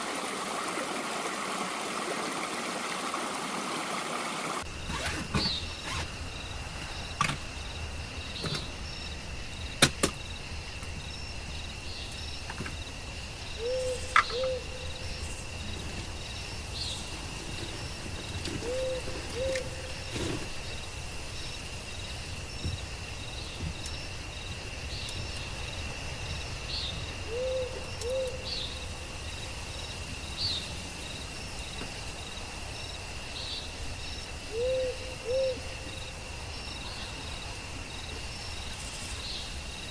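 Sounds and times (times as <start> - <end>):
high insect trill: 4.6 - 39.9.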